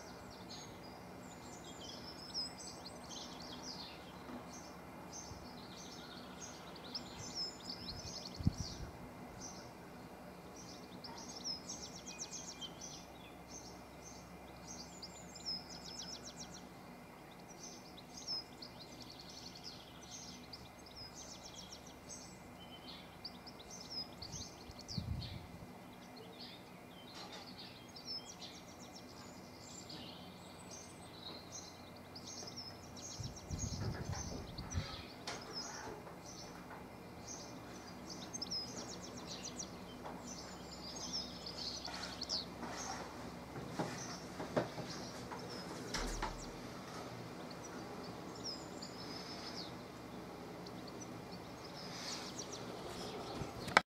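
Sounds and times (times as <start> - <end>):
small birds singing and chirping: 0.0 - 53.8.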